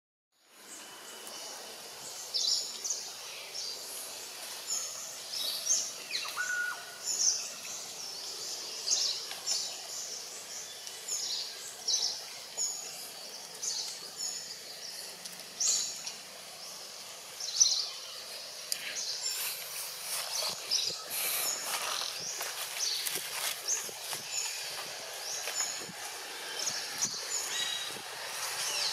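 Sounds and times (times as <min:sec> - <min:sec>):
background hiss: 0:00.4 - 0:28.9
small birds chirping: 0:00.4 - 0:28.9.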